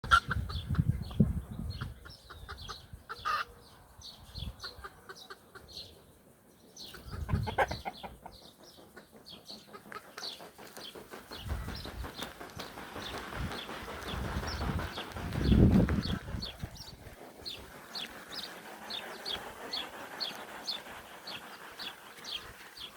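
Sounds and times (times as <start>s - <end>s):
birds chirping and clucking: 0.0s - 22.9s.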